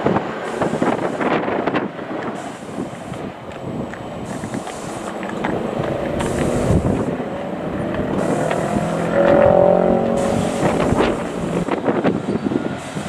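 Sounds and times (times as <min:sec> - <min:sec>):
diesel engine hum: 0:00.0 - 0:13.0.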